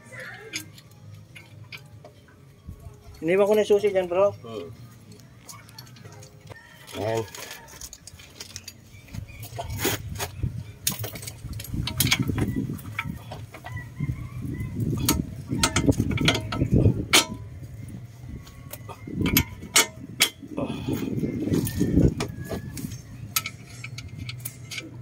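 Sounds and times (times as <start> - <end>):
metal tools clinking and knocking: 0.5 - 25.0.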